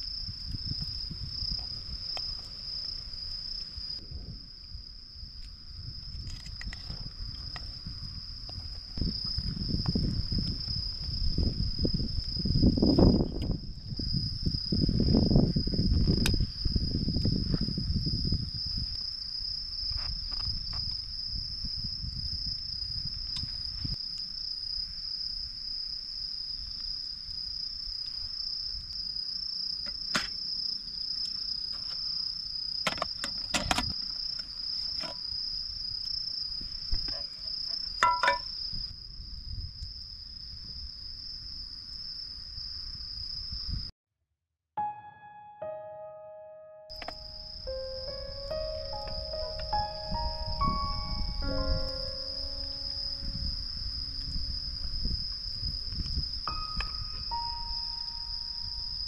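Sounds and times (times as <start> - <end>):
insects trilling: 0.0 - 43.9, 46.9 - 59.0.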